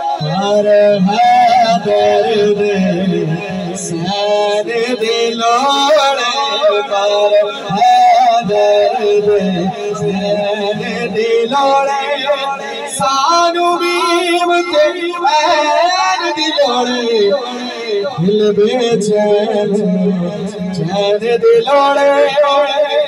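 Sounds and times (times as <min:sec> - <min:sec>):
man singing into microphone: 0:00.0 - 0:23.0.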